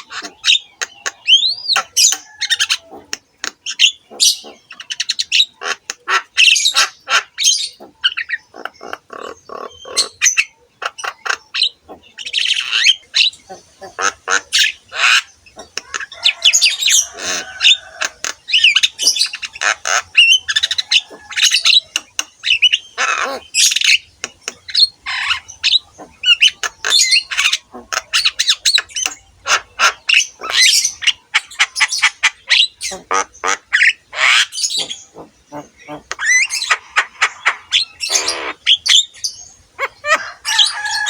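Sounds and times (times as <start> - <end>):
myna singing whistles and squawks: 0.0 - 41.0.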